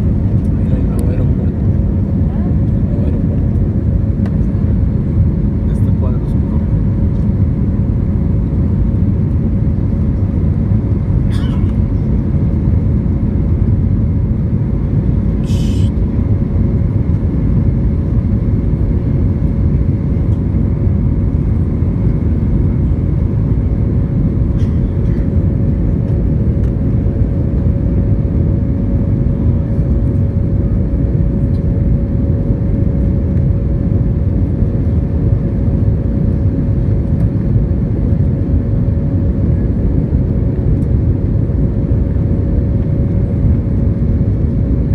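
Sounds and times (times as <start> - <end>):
jet engine roar in cabin: 0.0 - 44.9.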